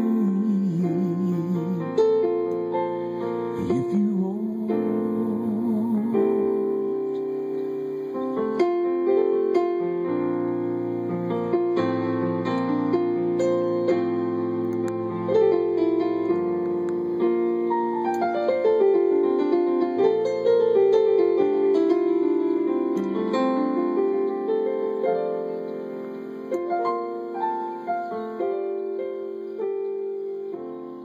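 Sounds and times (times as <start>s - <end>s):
solo piano: 0.0s - 31.0s.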